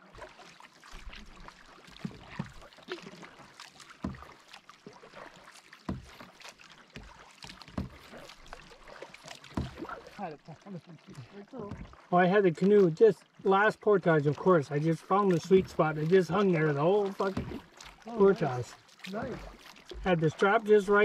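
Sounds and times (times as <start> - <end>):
paddle splashing and dripping: 0.0 - 21.0
water lapping at hull: 0.0 - 21.0.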